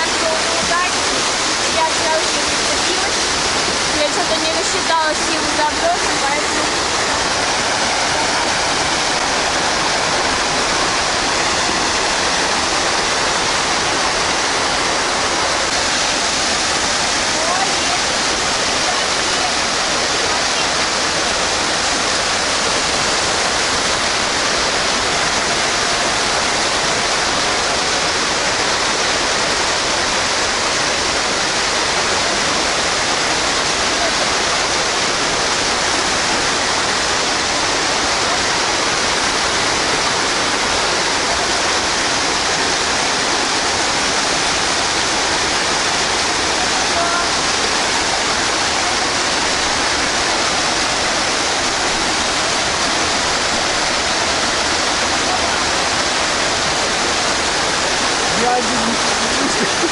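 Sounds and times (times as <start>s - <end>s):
water gushing into a pool: 0.0s - 59.9s.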